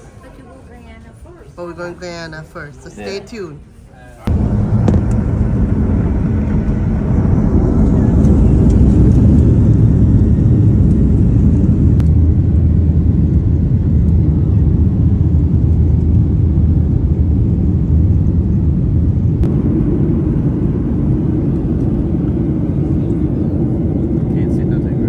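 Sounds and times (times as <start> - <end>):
jet engine rumble in cabin: 4.3 - 25.0.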